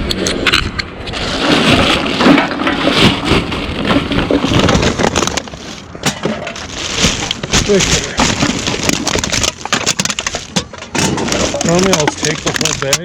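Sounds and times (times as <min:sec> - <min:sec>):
plastic bag crinkling: 0:01.2 - 0:13.0
cans clinking and rattling: 0:01.9 - 0:13.0.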